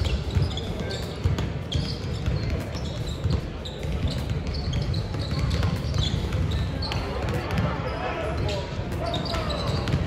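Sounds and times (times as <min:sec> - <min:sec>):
basketballs bouncing on wood court: 0:00.0 - 0:10.0
crowd chatter: 0:00.0 - 0:10.0
sneaker squeaks: 0:00.0 - 0:10.0.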